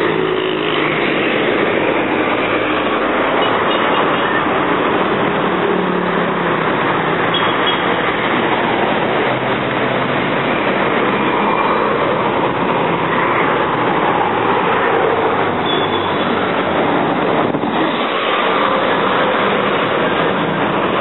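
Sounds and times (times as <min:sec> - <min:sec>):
cars and buses driving past: 0:00.0 - 0:21.0.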